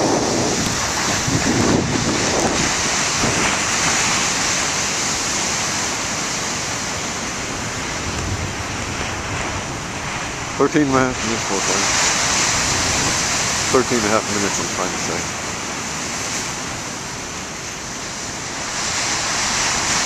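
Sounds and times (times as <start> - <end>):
ocean surf breaking on rocks: 0.0 - 20.0.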